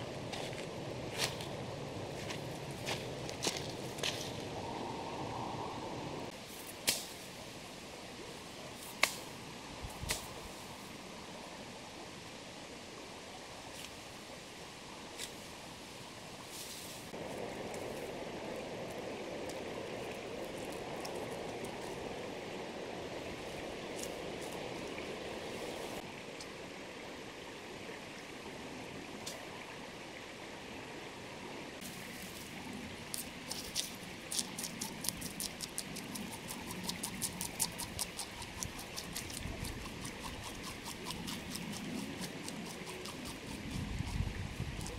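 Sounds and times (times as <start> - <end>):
river flowing: 0.0 - 44.9.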